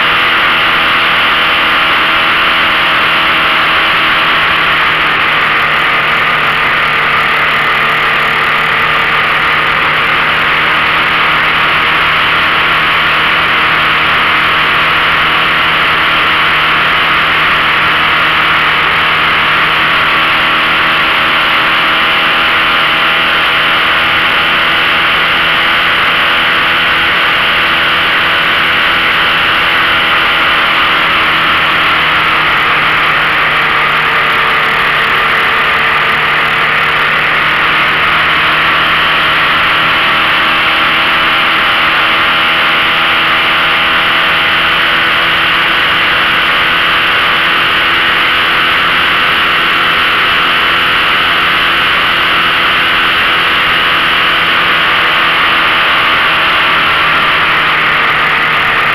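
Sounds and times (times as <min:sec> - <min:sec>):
outboard motor running: 0:00.0 - 0:58.9.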